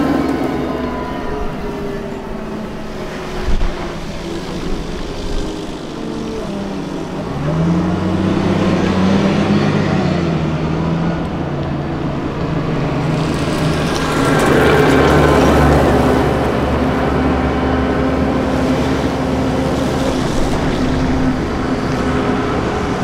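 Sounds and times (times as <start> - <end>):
diesel engine driving away: 0.0 - 23.0.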